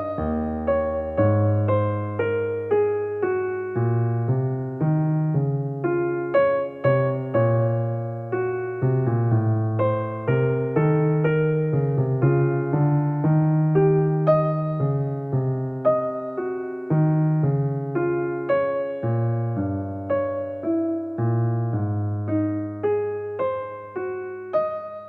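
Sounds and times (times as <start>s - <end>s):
soft keyboard music: 0.0s - 25.0s.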